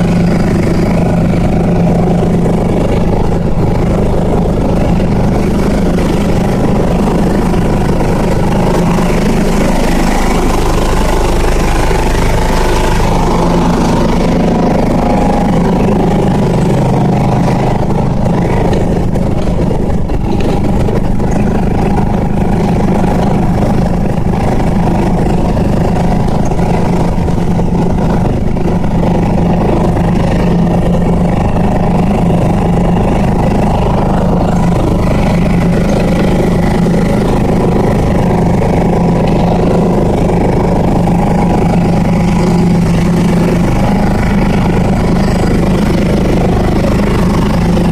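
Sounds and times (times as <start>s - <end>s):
ride-on lawn mower engine: 0.0s - 47.9s.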